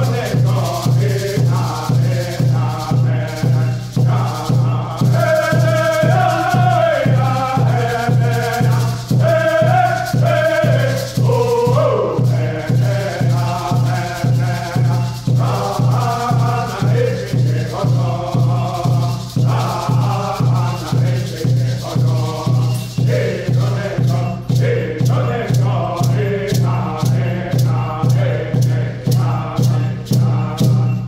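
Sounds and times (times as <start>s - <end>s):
men singing in unison: 0.0s - 31.0s
steady drum beat: 0.0s - 31.0s.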